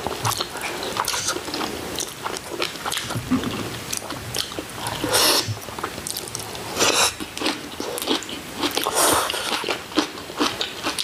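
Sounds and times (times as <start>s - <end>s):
crunchy chewing of pickled cabbage: 0.0s - 11.0s.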